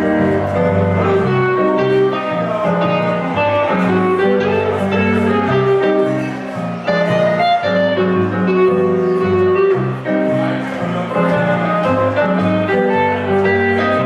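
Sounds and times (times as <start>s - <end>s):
bass line: 0.0s - 14.0s
electric guitar: 0.0s - 14.0s
stage keyboard: 0.0s - 14.0s.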